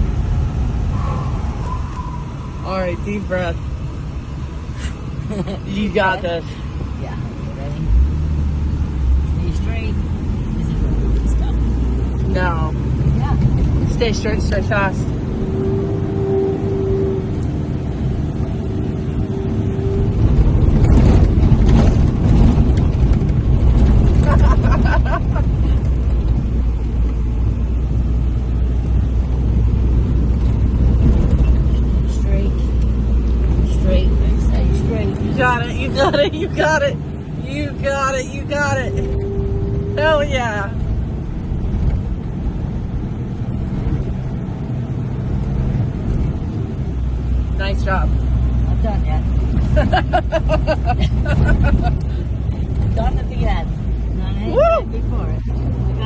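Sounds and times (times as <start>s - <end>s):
engine under heavy load: 0.0s - 56.0s.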